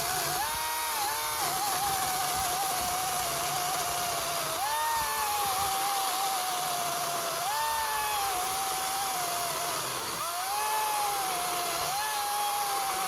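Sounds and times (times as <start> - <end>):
electric chainsaw motor whine: 0.0 - 13.0.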